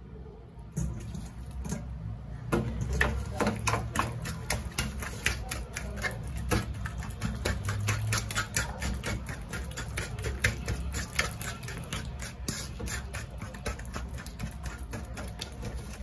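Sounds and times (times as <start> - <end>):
soft squelching of pulp: 0.6 - 16.0
clicks and taps against metal bowl: 2.6 - 16.0.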